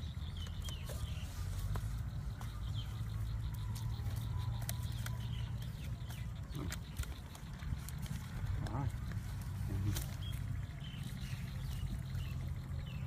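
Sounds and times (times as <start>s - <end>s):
low steady rumble: 0.0s - 13.0s
bamboo cage clicks and rattles: 0.1s - 12.8s.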